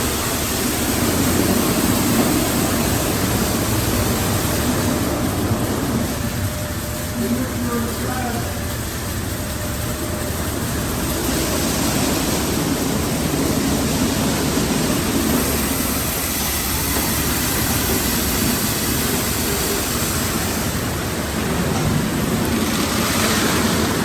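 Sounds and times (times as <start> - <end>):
car wash equipment rushing hiss: 0.0 - 24.0.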